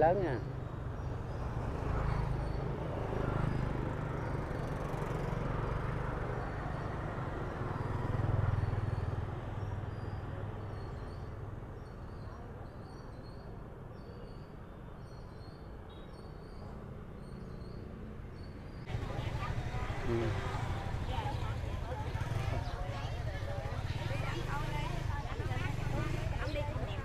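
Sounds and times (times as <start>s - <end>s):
passing motor traffic rumble: 0.0s - 12.6s, 16.6s - 27.0s.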